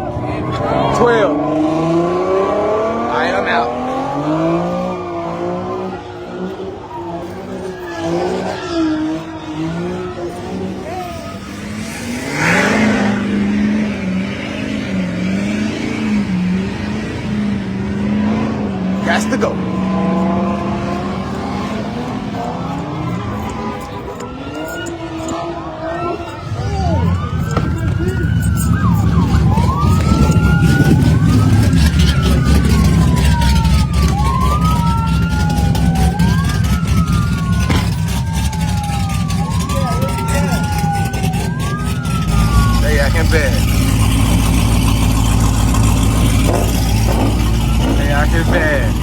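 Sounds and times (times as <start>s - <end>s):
car engine revving: 0.0s - 49.0s
sirens wailing: 0.0s - 49.0s.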